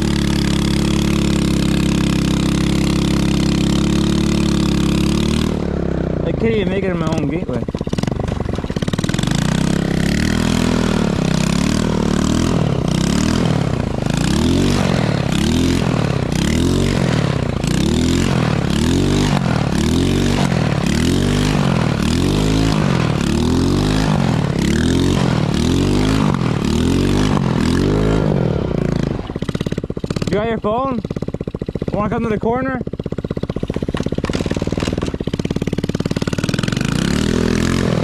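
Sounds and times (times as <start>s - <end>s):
small quad engine revving: 0.0s - 38.0s.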